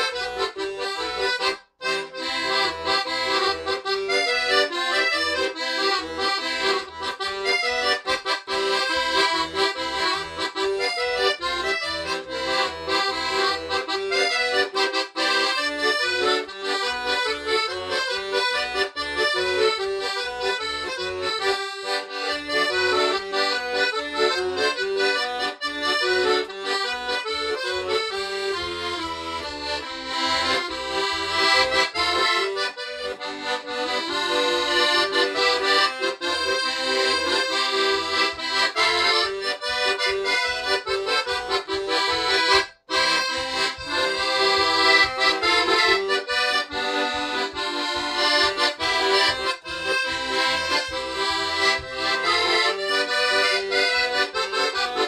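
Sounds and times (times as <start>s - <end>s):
accordion playing polka: 0.0s - 55.0s.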